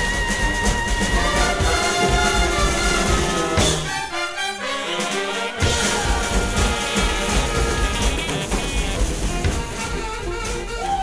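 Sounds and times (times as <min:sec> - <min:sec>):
drums and bass: 0:00.0 - 0:04.1, 0:05.0 - 0:11.0
trumpets and trombone: 0:00.0 - 0:11.0.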